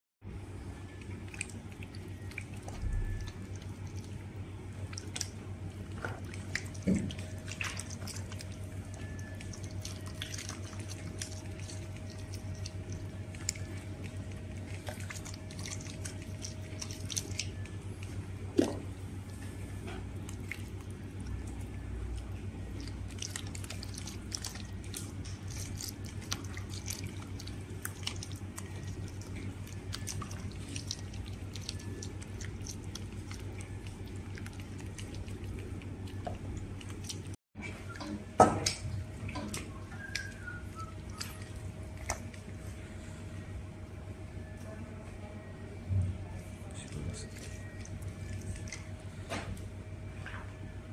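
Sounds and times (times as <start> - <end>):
steady low hum: 0.2 - 50.9.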